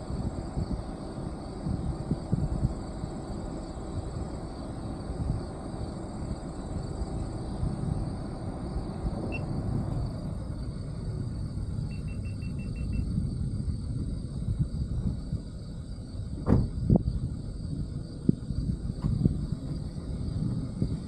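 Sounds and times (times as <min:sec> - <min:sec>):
faint steady high whine: 0:00.0 - 0:21.0
vehicle and road noise rumble: 0:00.0 - 0:21.0
wind buffeting microphone: 0:00.0 - 0:21.0.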